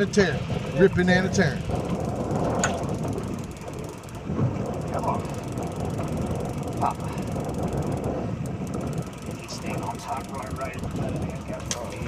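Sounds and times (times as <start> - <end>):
boat rumble: 0.0 - 12.0
fishing reel drag clicking: 2.0 - 12.0.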